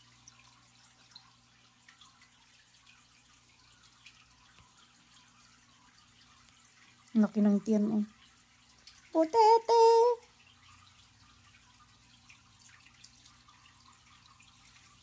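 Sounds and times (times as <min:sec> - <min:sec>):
aquarium pump humming: 0:00.0 - 0:15.0
water drips and trickles: 0:00.0 - 0:15.0.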